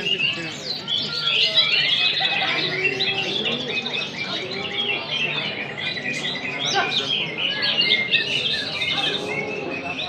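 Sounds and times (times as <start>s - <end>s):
birds singing: 0.0s - 10.0s.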